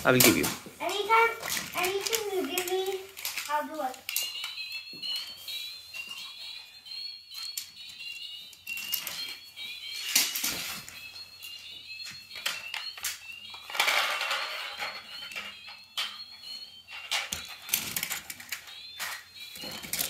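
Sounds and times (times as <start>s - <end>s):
plastic toy cars clattering: 0.0s - 5.3s, 7.4s - 11.0s, 12.3s - 20.0s.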